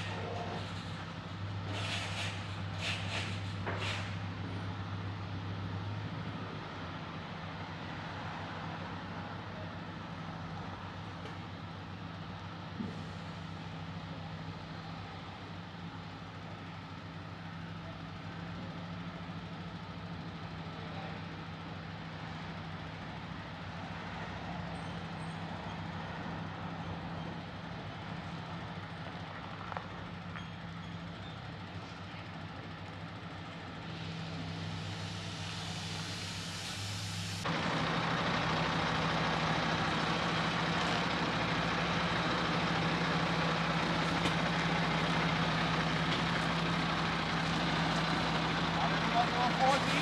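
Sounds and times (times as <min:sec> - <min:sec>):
truck diesel engine drone: 0:00.0 - 0:50.0.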